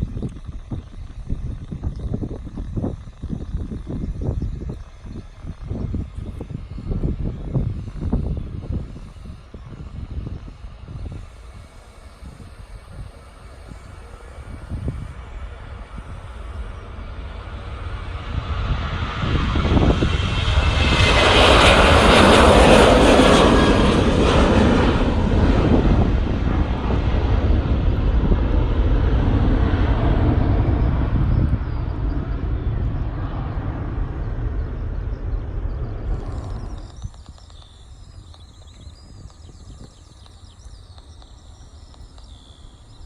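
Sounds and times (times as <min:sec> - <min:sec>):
airliner passing: 0:00.0 - 0:43.0.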